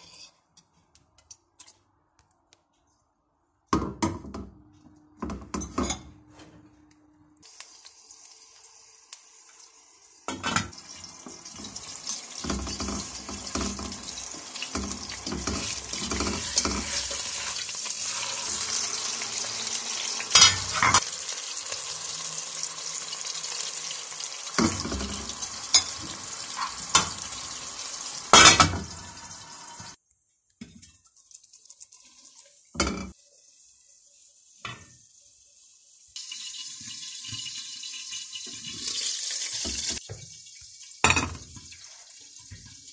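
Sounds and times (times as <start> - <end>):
burger sizzling in oil: 7.4 - 30.0, 31.0 - 42.9.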